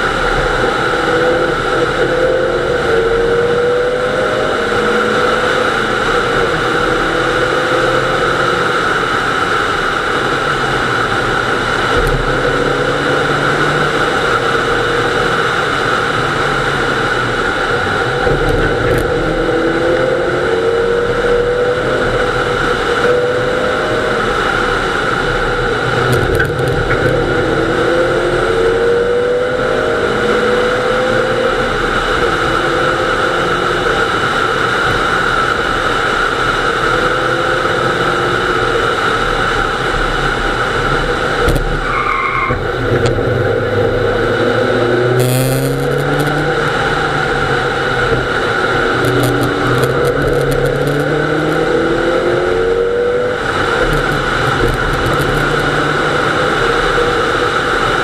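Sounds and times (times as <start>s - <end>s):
car engine revving: 0.0s - 58.0s
road and wind noise: 0.0s - 58.0s.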